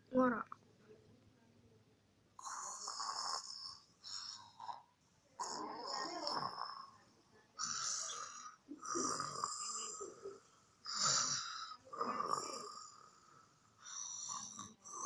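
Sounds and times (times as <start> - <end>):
cat snoring: 2.4 - 7.0, 7.6 - 15.0.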